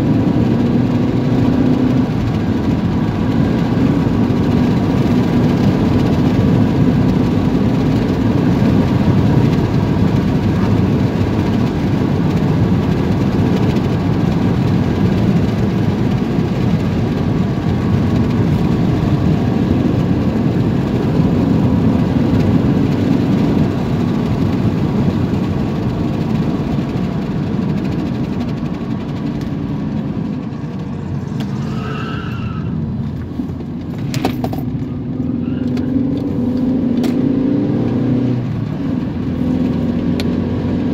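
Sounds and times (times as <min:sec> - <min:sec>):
car engine: 0:00.0 - 0:40.9
tyre noise on road: 0:00.0 - 0:40.9.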